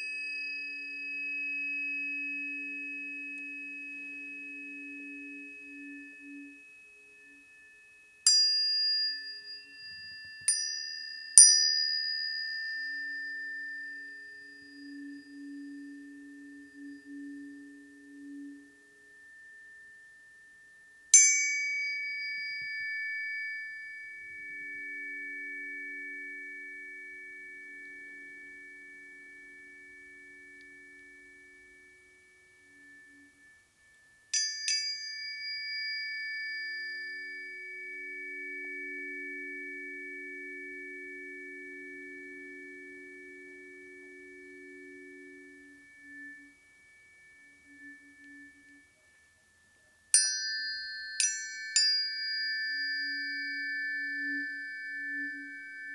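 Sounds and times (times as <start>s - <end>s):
lower soft tones: 0.0s - 55.9s
tuning forks ringing: 0.0s - 55.9s.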